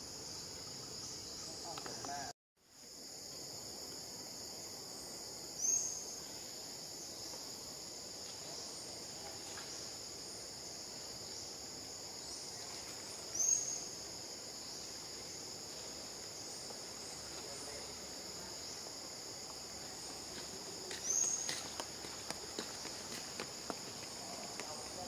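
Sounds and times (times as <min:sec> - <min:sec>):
rising insect chirps: 0:00.0 - 0:25.0.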